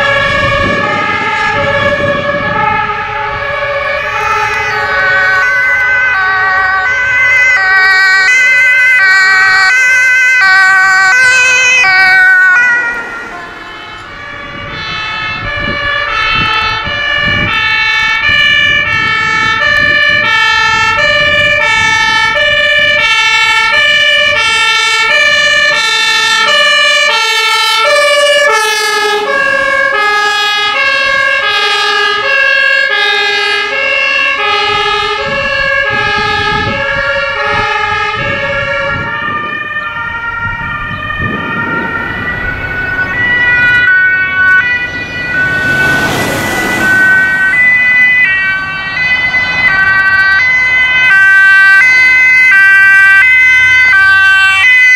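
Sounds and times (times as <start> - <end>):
ambulance two-tone siren: 0.0 - 54.9
loud siren: 0.0 - 54.9.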